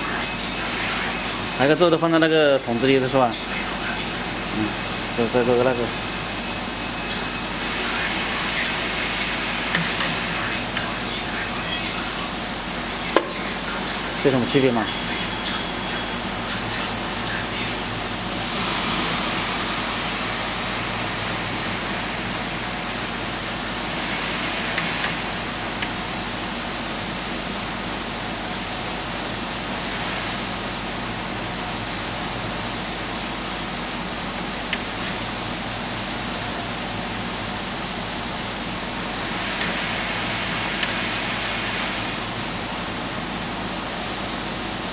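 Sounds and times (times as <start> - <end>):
steady rushing room noise: 0.0 - 44.9
thin high whine: 0.0 - 44.9.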